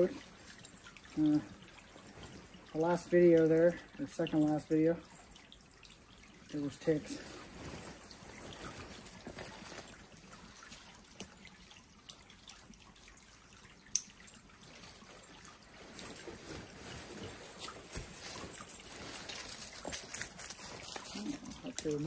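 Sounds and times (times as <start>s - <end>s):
stream trickling: 0.0s - 22.0s.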